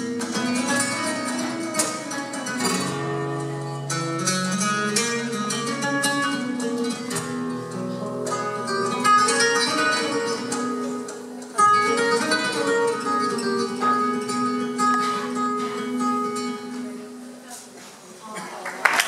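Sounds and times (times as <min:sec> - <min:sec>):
flamenco acoustic guitar duet: 0:00.0 - 0:18.0.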